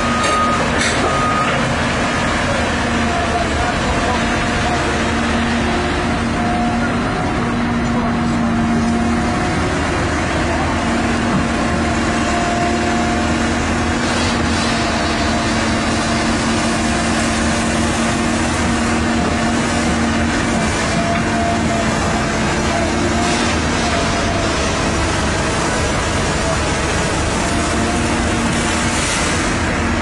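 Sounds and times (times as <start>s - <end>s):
excavator diesel engine: 0.0s - 30.0s.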